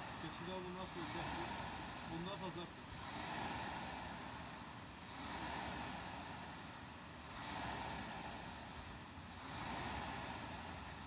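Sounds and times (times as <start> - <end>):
rowing machine flywheel whooshing: 0.0 - 11.0.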